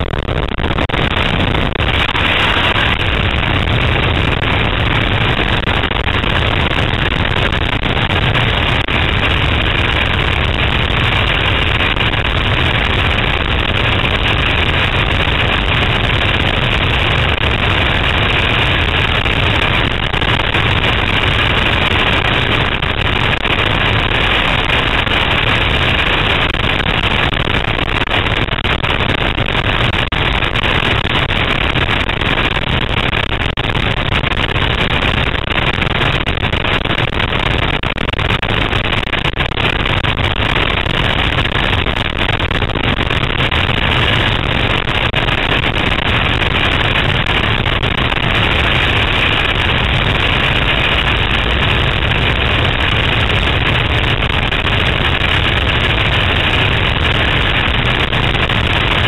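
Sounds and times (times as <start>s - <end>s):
wind blasting over microphone: 0.0s - 59.0s.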